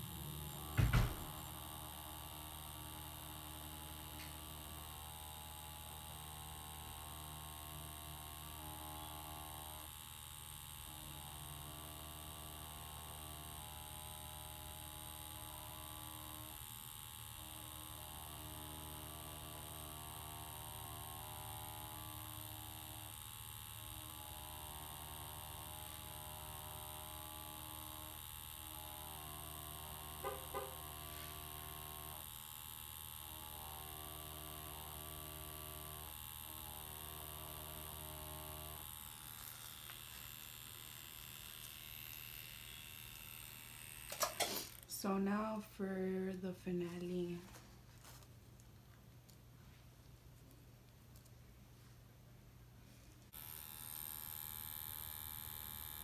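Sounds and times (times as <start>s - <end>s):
tattoo machine humming: 0.0s - 48.3s, 53.3s - 56.0s.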